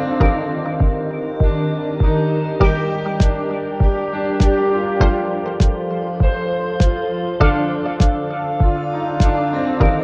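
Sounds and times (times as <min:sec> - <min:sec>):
ambient instrumental music: 0:00.0 - 0:10.0
soft low beat: 0:00.0 - 0:10.0.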